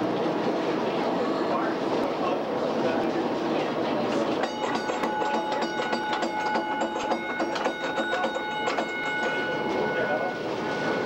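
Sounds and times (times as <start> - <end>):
streetcar clicking and rattling: 0.0 - 11.0
streetcar whine: 0.0 - 11.0.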